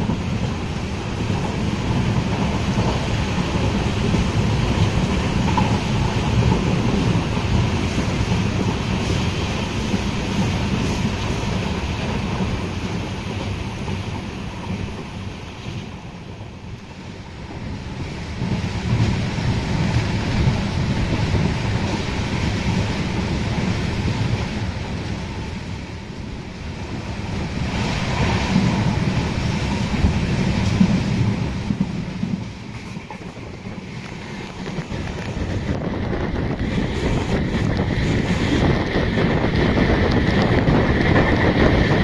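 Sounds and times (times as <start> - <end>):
train coach rumble: 0.0 - 42.0
wind rushing over microphone: 0.0 - 42.0.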